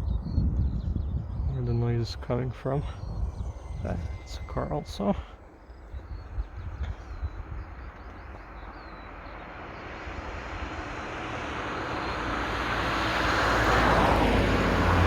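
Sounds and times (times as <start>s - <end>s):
car approaching: 1.2s - 15.0s.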